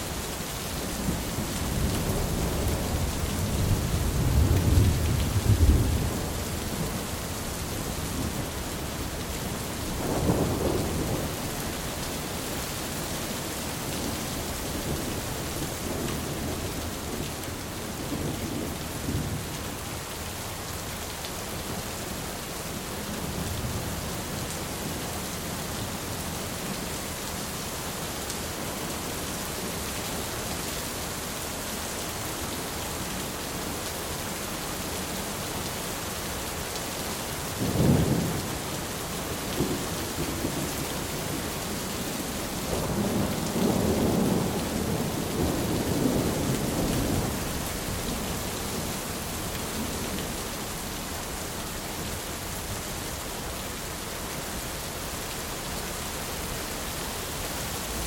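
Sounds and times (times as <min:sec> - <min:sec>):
heavy rain hissing: 0:00.0 - 0:22.2, 0:31.6 - 0:58.0.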